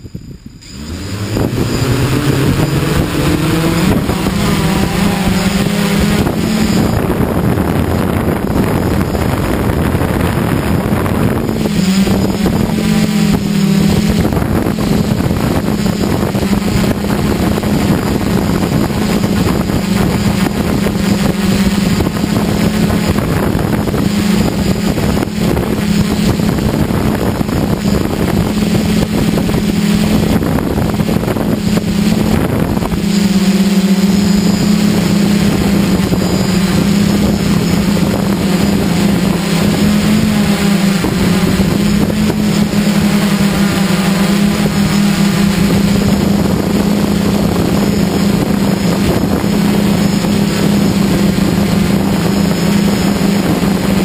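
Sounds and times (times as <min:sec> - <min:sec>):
drone motors humming: 0:00.0 - 0:54.0
wind noise on microphone: 0:00.0 - 0:54.0.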